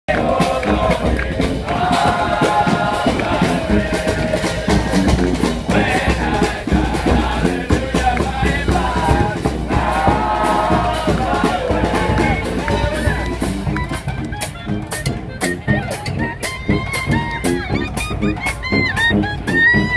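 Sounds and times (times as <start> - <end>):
brass band playing: 0.1 - 19.9.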